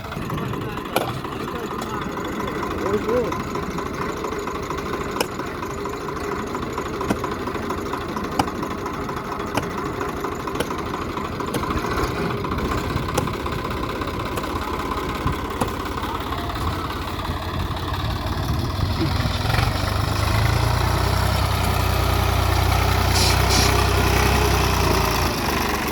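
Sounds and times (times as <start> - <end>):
diesel tractor engine running: 0.0 - 25.9.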